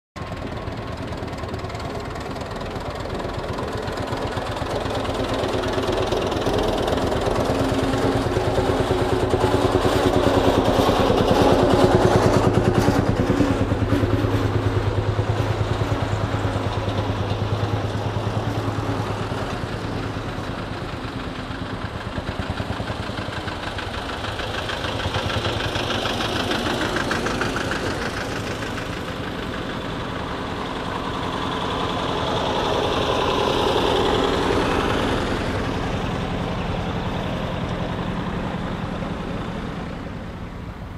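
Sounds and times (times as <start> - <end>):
tractor engines driving past: 0.2 - 40.9.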